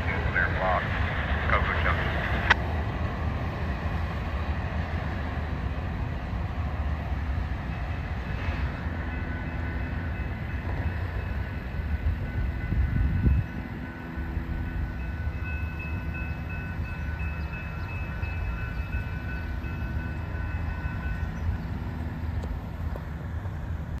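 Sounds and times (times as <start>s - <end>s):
distant freight train rumble: 0.0s - 24.0s.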